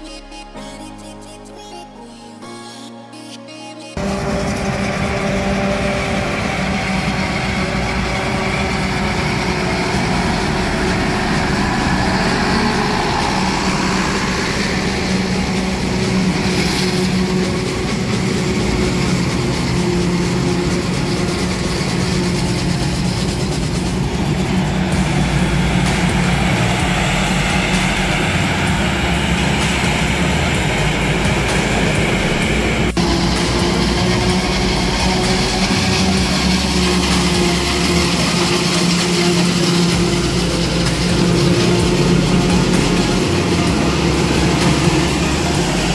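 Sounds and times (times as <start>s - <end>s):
farm machine engine humming: 4.0s - 45.9s.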